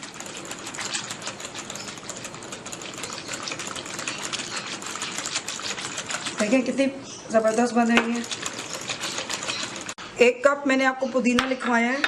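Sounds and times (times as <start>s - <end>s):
liquid sloshing: 0.0s - 10.0s
whisk clattering in a jug: 0.0s - 10.0s.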